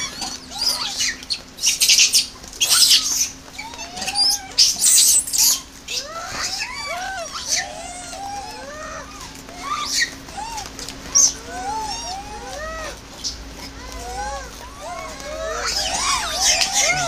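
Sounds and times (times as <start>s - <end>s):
macaques cooing: 0.0s - 17.0s
shrill monkey calls: 0.0s - 17.0s.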